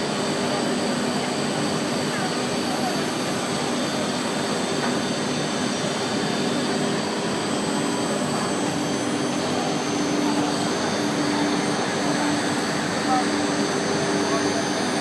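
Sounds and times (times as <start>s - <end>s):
wood router running: 2.6s - 15.0s.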